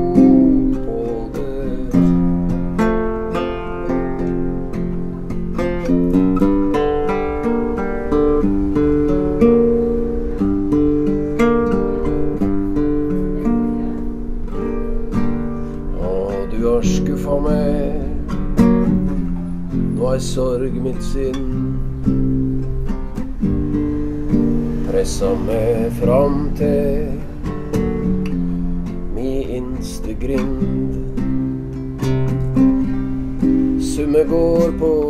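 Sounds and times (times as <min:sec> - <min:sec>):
classical guitar strumming chords: 0:00.0 - 0:35.0.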